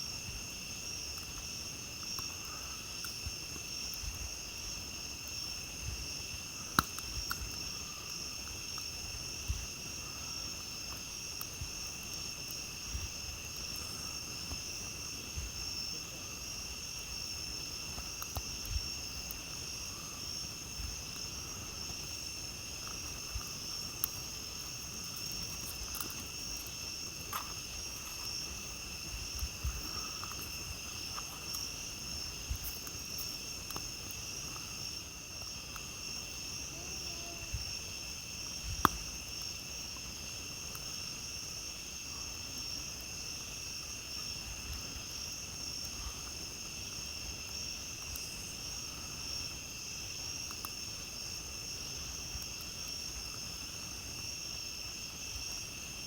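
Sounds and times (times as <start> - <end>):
campfire crackling and popping: 0.0 - 56.0
night insects trilling: 0.0 - 56.0.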